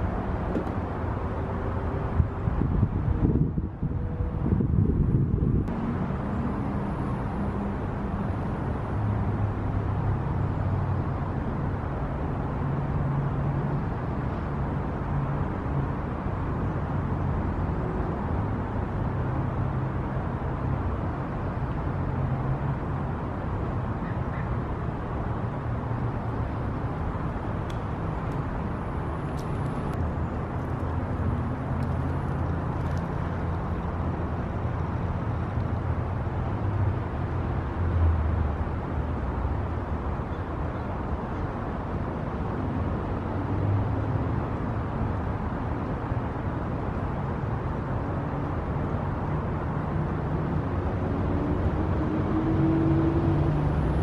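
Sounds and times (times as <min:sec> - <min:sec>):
low engine-like hum: 0:00.0 - 0:54.0.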